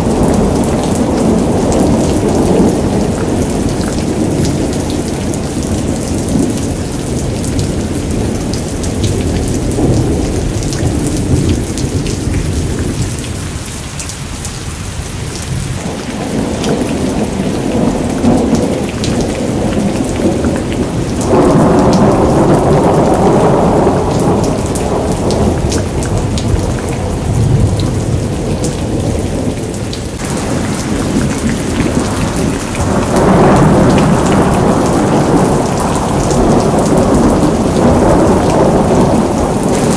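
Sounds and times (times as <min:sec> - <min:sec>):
thunder rumbling: 0:00.0 - 0:13.7, 0:15.3 - 0:39.9
heavy rain pattering: 0:00.0 - 0:39.9.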